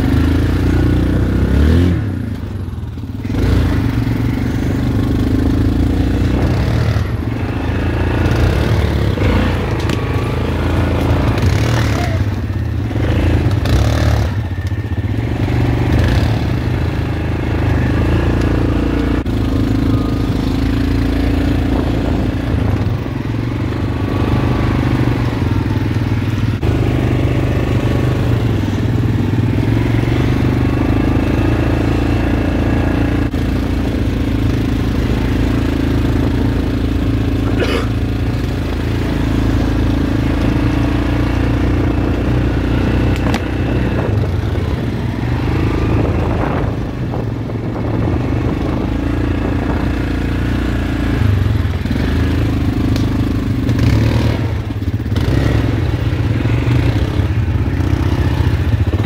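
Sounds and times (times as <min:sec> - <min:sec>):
quad bike engines running: 0:00.0 - 0:59.0.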